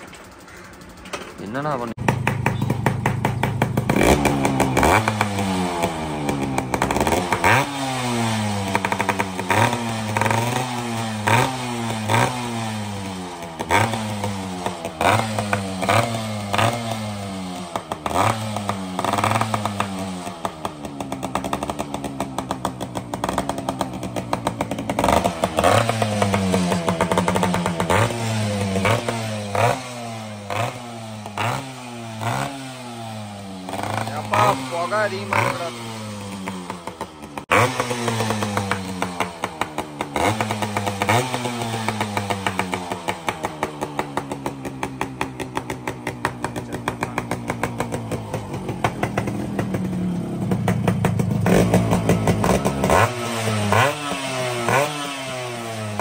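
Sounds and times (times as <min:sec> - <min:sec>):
exhaust crackling: 0:00.0 - 0:56.0
motorcycle engine revving: 0:00.0 - 0:56.0.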